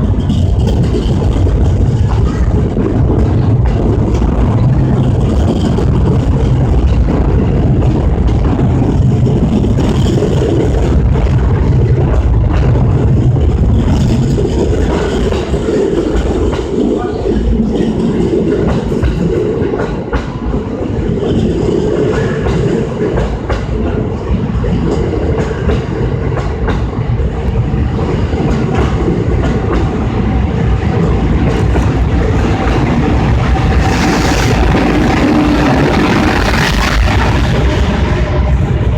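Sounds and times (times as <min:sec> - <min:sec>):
train coaches rumbling past: 0:00.0 - 0:38.9.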